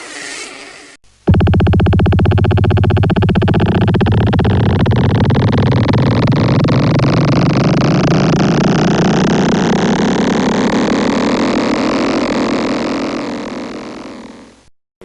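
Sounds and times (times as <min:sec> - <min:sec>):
synthesized buzzing drone: 0:01.2 - 0:14.7.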